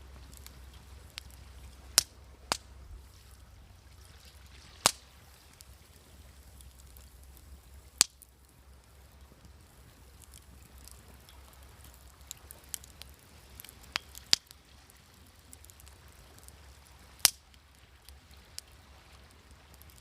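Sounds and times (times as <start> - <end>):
faint low rumble: 0.0 - 20.0
wood fire crackling and popping: 0.0 - 20.0.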